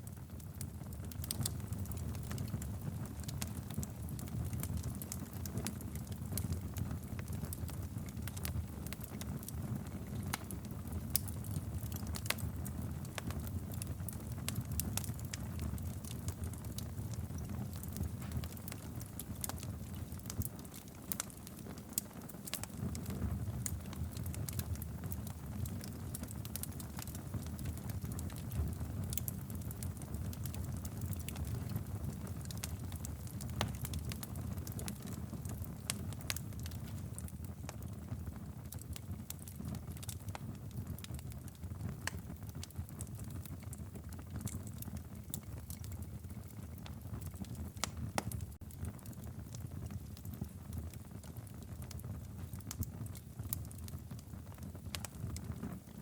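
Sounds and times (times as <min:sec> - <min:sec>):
rumble of flames: 0:00.0 - 0:56.0
wood fire crackling: 0:00.0 - 0:56.0.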